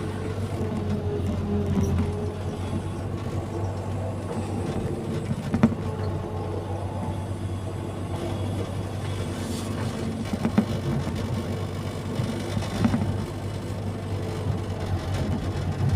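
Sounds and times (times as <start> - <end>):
excavator diesel engine drone: 0.0 - 15.9.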